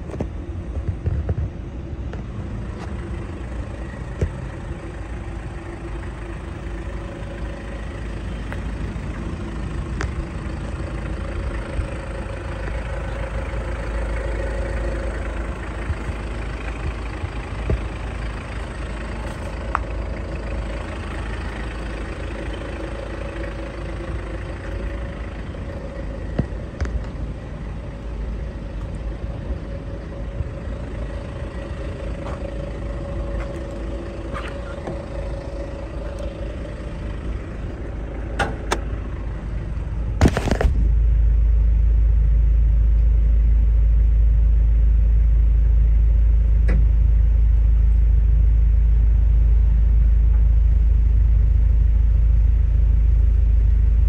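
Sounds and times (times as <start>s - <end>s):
diesel engine idling: 0.0s - 54.0s
low rumble on microphone: 0.0s - 54.0s.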